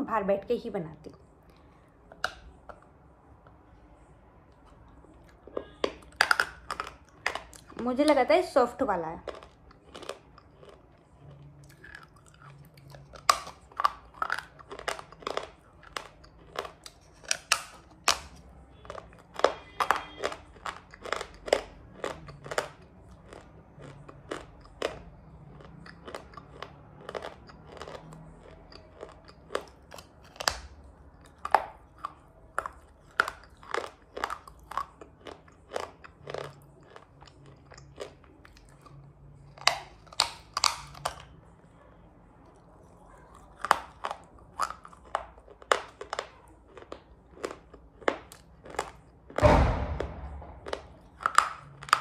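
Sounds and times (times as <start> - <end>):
crunchy chewing and biting: 4.5 - 8.2, 8.8 - 41.8, 42.4 - 52.0.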